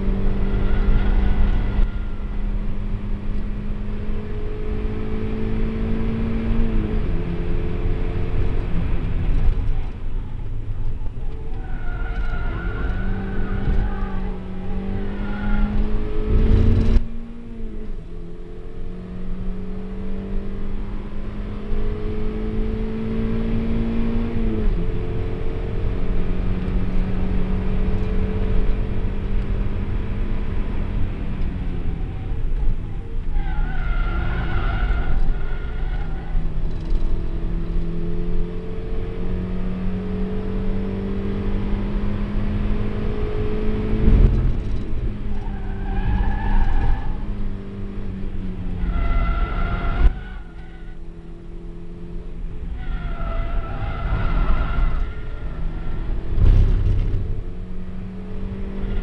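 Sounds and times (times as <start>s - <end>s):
car engine running hard: 0.0s - 59.0s.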